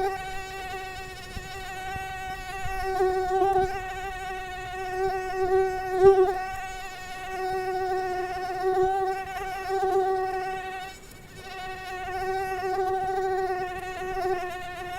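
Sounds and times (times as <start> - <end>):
mosquito whine: 0.0 - 14.9.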